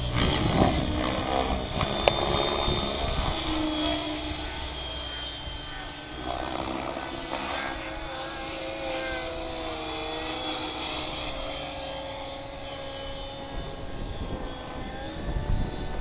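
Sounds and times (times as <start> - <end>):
rc helicopter whine: 0.0 - 16.0.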